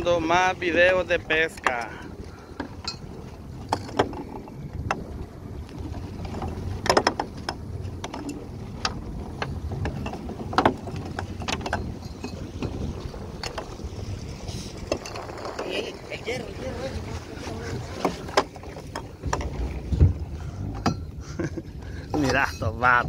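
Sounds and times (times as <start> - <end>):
boat motor rumble: 0.0 - 23.0
hull slapping on water: 0.0 - 23.0.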